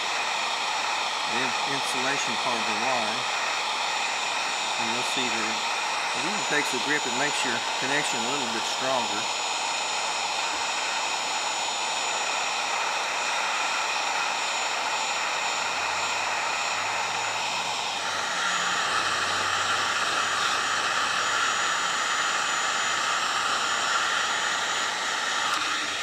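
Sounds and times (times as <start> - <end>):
heat gun blowing with fan whine: 0.0 - 26.0.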